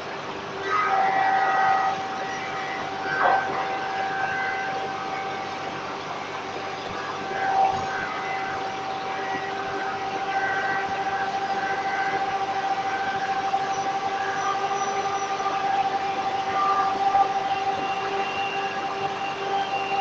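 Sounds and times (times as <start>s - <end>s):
woodworking machinery noise: 0.1s - 20.0s
circular saw whining: 0.4s - 20.0s.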